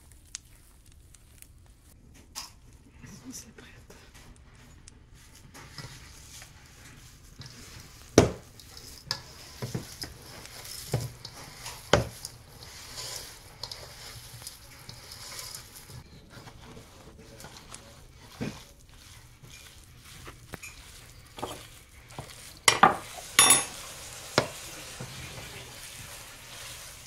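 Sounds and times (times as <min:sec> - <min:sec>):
wet squishing of kneaded meat: 0:00.0 - 0:02.9, 0:04.1 - 0:27.0.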